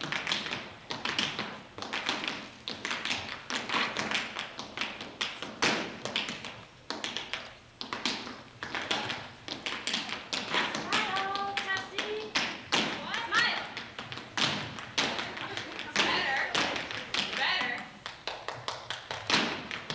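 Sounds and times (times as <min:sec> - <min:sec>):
tap shoes on stage floor: 0:00.0 - 0:19.9.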